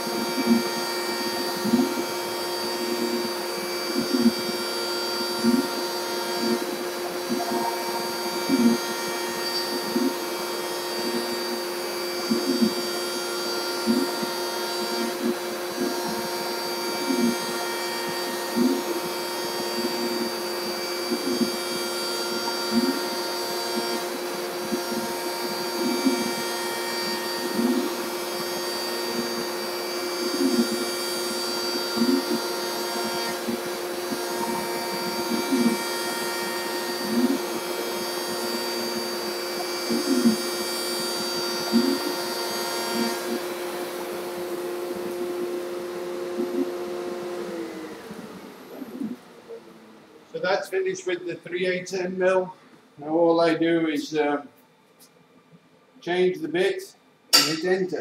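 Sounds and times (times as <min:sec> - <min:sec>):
router motor cutting plastic: 0:00.0 - 0:49.8
dust collector running: 0:00.0 - 0:54.4.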